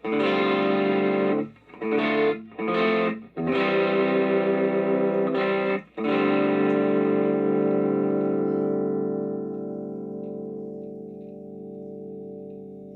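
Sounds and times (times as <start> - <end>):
distorted electric guitar chords: 0.0 - 12.9.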